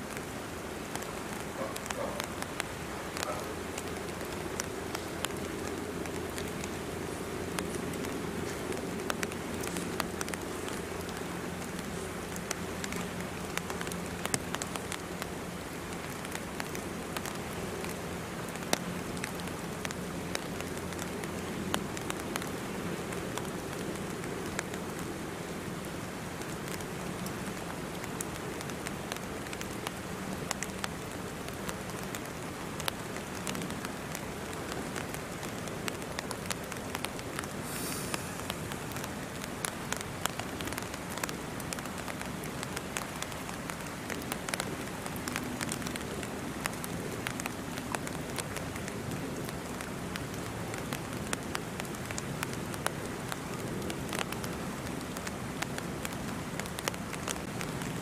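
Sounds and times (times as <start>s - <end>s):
rain drops ticking: 0.0s - 58.0s.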